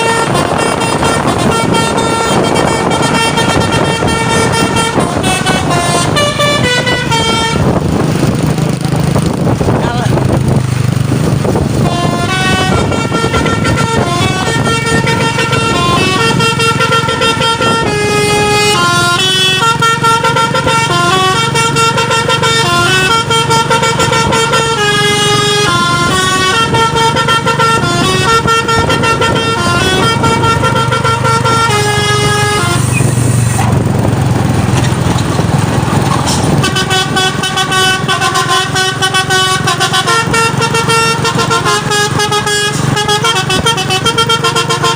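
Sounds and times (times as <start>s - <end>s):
musical air horns melody: 0.0s - 8.0s, 11.7s - 33.6s, 36.2s - 44.9s
truck engine running: 0.0s - 44.9s.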